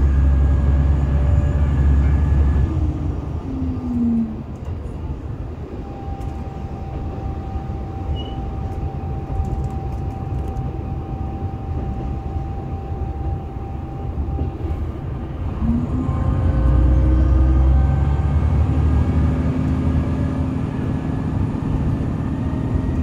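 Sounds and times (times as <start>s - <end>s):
railcar engine and wheels rumbling: 0.0s - 23.0s
steady whine: 0.0s - 23.0s.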